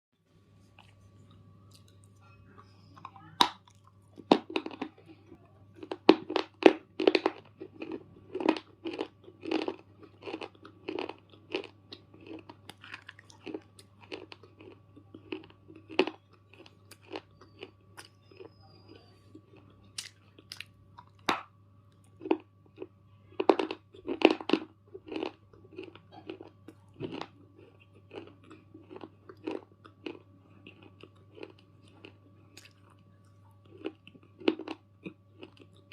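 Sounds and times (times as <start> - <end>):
low steady hum: 0.2 - 35.9
crunchy chewing: 0.6 - 35.9.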